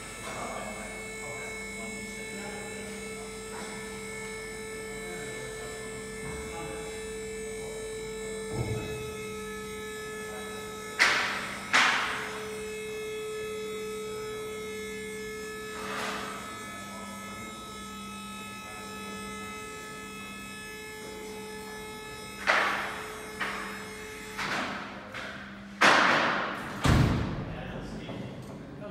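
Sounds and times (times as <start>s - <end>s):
hydraulic motor and pump hum: 0.0s - 28.9s.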